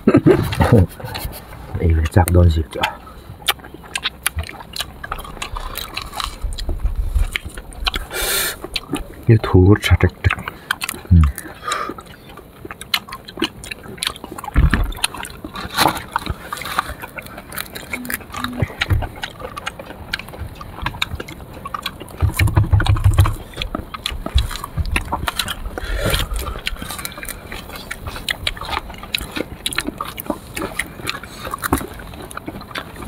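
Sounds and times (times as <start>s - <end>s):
chewing and wet mouth sounds: 0.0s - 33.0s.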